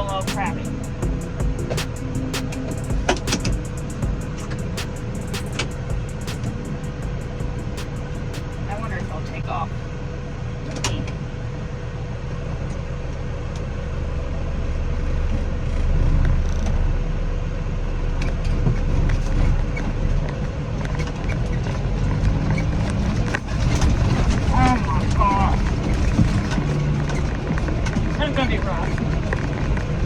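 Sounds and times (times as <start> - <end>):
tractor engine rumbling: 0.0 - 11.7, 14.8 - 30.0.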